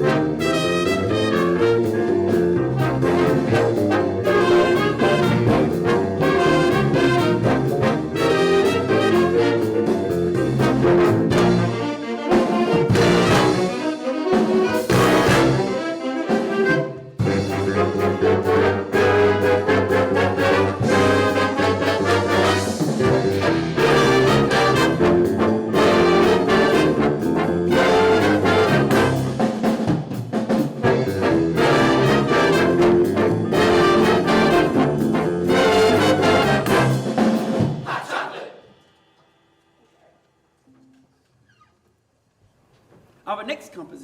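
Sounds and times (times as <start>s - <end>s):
brass band music: 0.0s - 38.6s.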